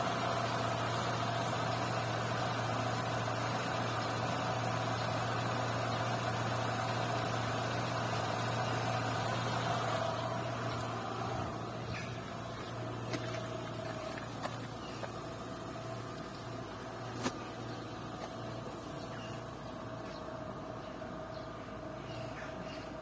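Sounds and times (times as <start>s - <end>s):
low hum of running car: 0.0s - 23.0s.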